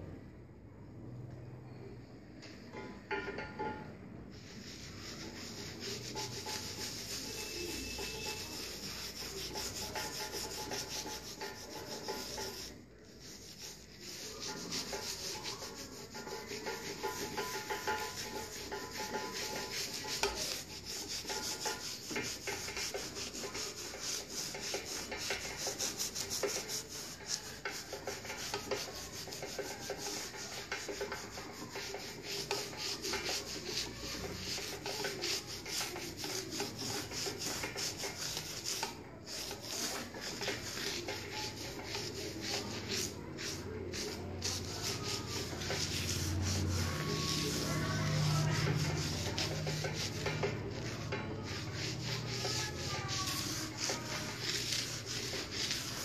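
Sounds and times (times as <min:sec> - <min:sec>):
abrasive pad rubbing metal: 0:04.3 - 0:56.0.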